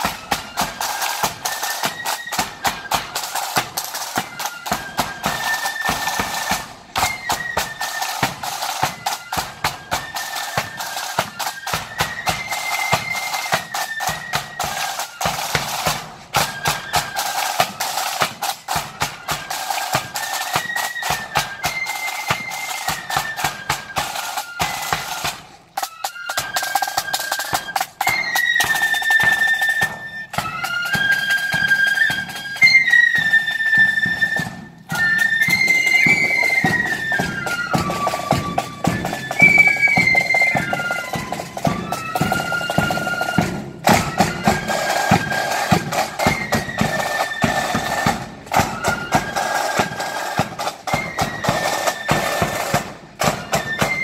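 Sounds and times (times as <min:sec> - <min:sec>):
flutes playing melody: 0:00.0 - 0:54.0
snare drums: 0:00.0 - 0:54.0.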